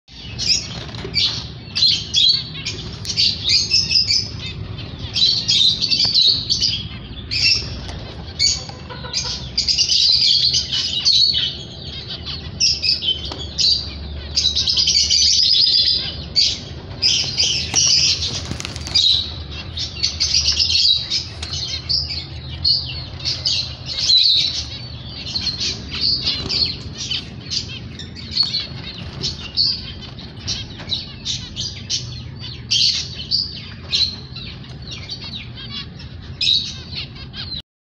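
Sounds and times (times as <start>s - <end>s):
finches chirping: 0.1s - 37.6s.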